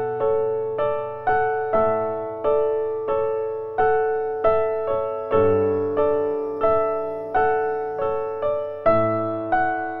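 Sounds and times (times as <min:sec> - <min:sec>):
slow solo piano piece: 0:00.0 - 0:10.0.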